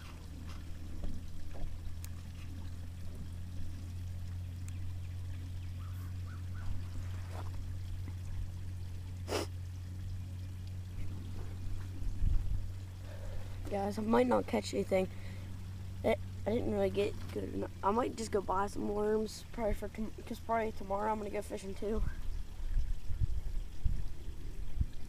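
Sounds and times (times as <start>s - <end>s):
steady low hum: 0.0s - 25.0s
water trickling: 0.0s - 25.0s.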